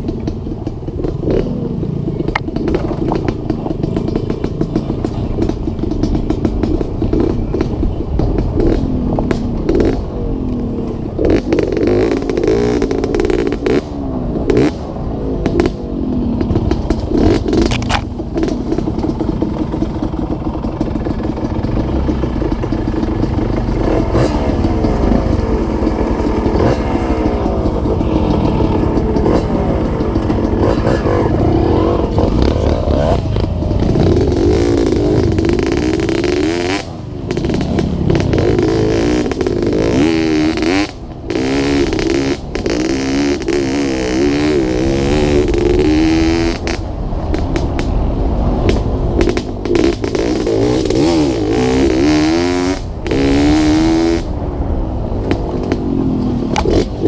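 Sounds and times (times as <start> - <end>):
dirt bike engine revving: 0.0 - 48.0, 49.2 - 54.4, 55.2 - 57.0.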